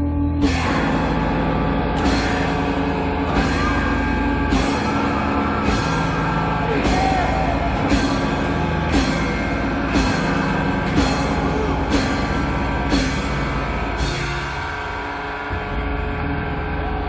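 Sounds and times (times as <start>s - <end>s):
cymbal hits: 0.4s - 15.5s
rock band playing distorted music: 0.4s - 17.0s.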